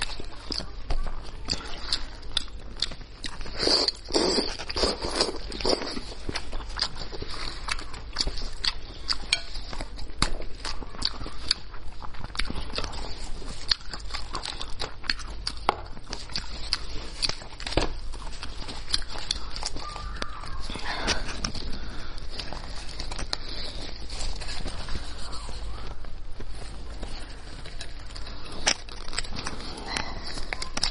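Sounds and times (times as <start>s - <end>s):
wet chewing and smacking: 0.0s - 30.9s.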